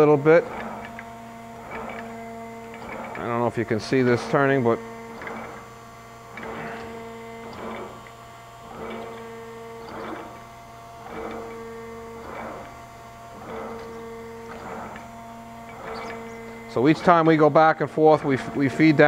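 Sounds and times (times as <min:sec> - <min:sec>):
grinder motor hum: 0:00.0 - 0:19.0
grinding hiss: 0:00.0 - 0:19.0.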